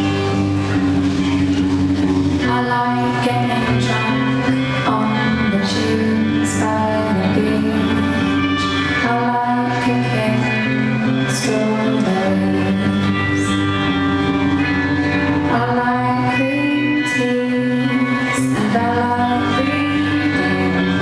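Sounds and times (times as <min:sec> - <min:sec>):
guitar accompaniment: 0:00.0 - 0:21.0
woman singing: 0:02.4 - 0:13.8, 0:15.4 - 0:21.0.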